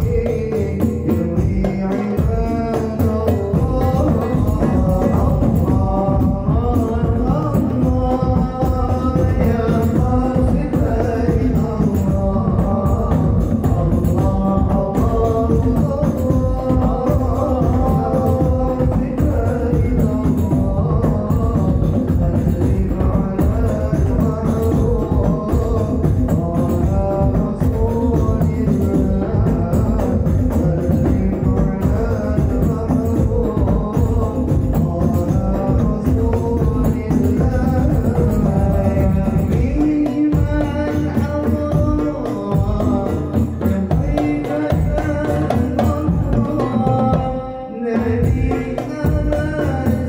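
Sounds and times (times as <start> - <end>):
frame drums and bass drum rhythm: 0.0 - 50.0.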